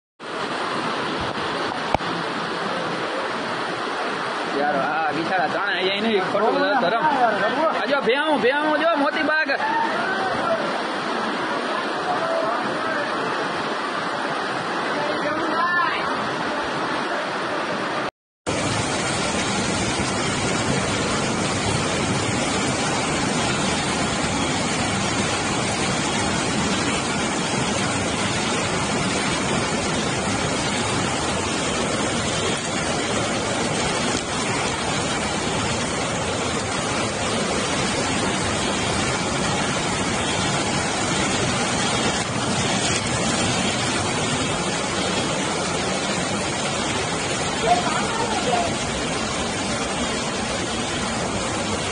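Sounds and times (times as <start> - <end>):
floodwater rushing: 0.2 - 51.9.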